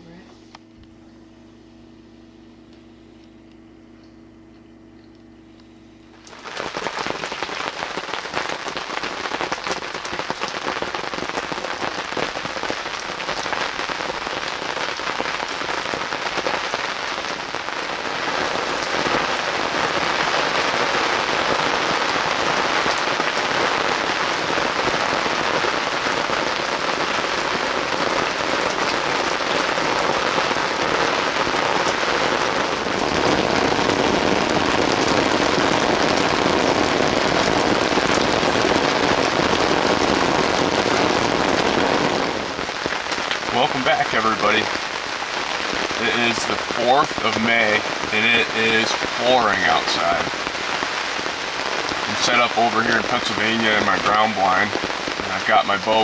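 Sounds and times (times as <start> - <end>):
heavy rain pouring: 6.1 - 56.0.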